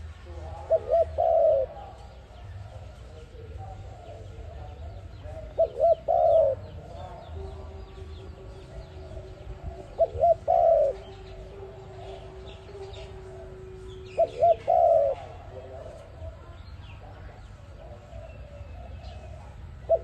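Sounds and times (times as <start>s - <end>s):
dove cooing: 0.0s - 20.0s
small birds chirping faintly: 0.0s - 20.0s.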